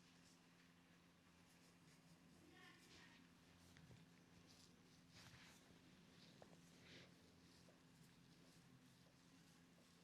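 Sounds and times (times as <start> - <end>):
faint soft rustles: 0.0 - 10.0.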